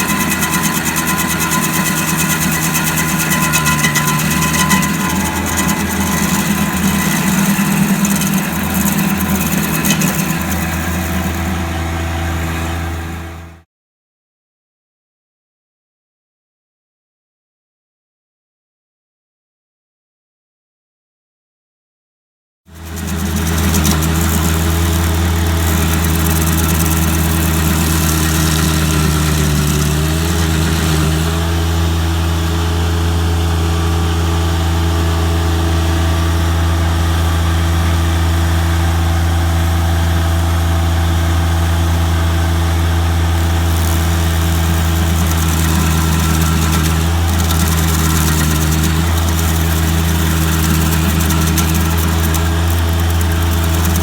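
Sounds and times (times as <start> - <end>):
engine running steadily: 0.0 - 13.6, 22.8 - 54.0.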